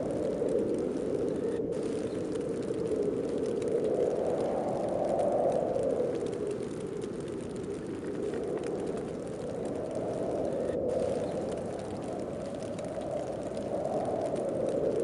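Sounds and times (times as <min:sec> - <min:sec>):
snowstorm wind rushing: 0:00.0 - 0:15.0.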